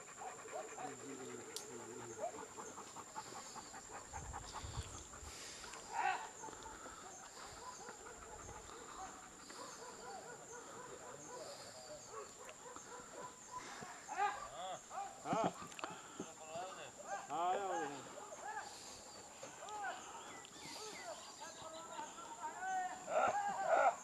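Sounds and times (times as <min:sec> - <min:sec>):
dogs panting: 0:00.0 - 0:24.0.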